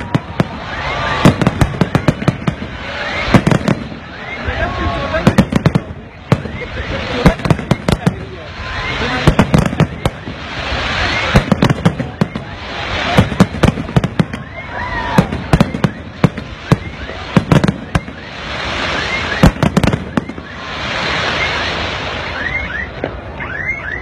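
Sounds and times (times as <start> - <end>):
fireworks bursting: 0.0 - 24.0
fireworks rushing noise: 0.0 - 24.0.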